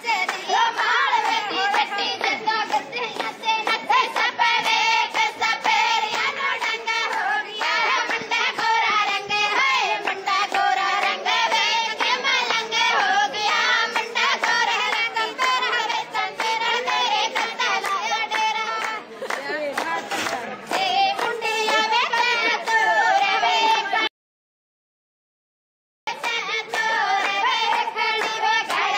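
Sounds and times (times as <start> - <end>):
rhythmic handclaps: 0.0 - 24.1, 26.1 - 28.9
woman singing: 0.0 - 24.1.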